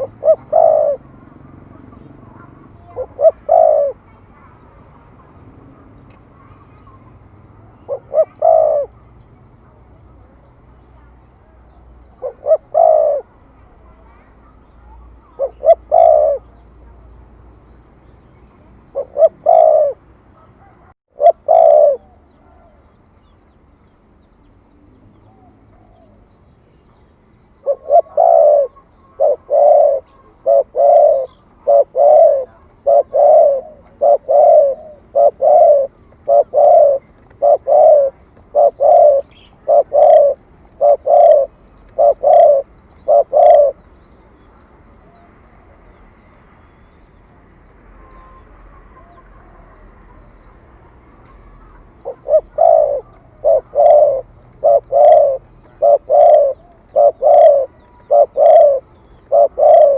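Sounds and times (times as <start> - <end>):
dove cooing: 0.0 - 17.1, 18.6 - 22.8, 25.1 - 44.0, 48.0 - 59.9.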